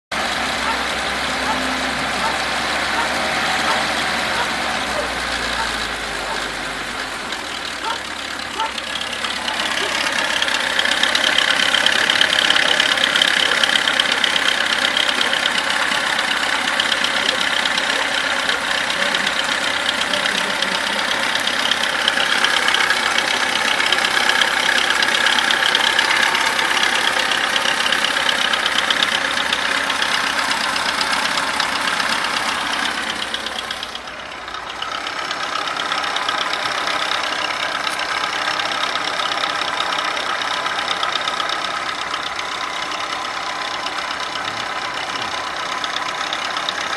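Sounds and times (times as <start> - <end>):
engine running with knock: 0.1 - 46.9.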